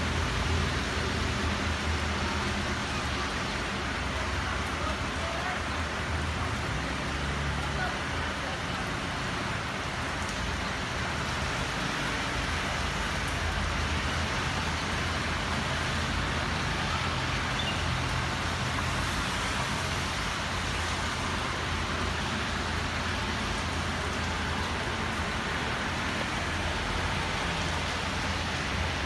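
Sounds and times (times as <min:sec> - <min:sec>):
steady rain: 0:00.0 - 0:29.0
vehicles passing on wet road: 0:00.0 - 0:29.0.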